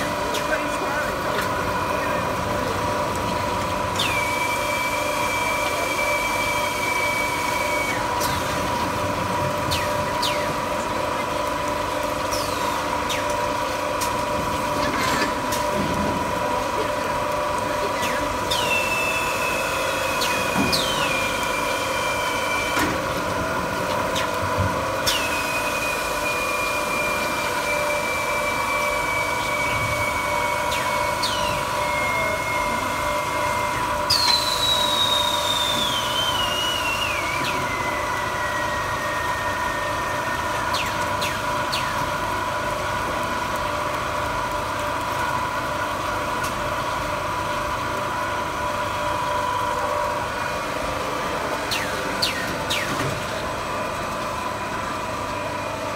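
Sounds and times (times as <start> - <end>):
steady mechanical hum: 0.0 - 55.9.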